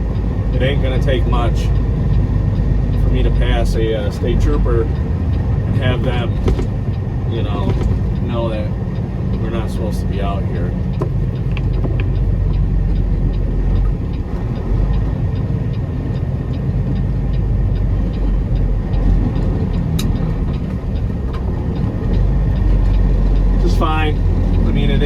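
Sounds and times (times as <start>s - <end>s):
diesel truck engine running: 0.0s - 25.0s
faint regular ticking: 0.0s - 25.0s
road noise: 0.0s - 25.0s.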